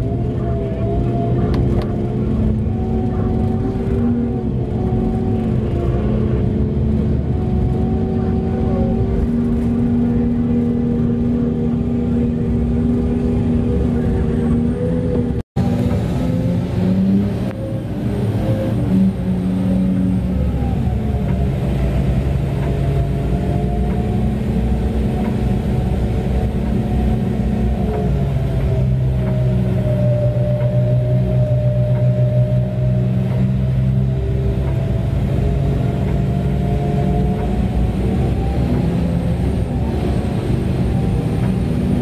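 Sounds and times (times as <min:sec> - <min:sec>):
diesel truck engine drone: 0:00.0 - 0:42.0.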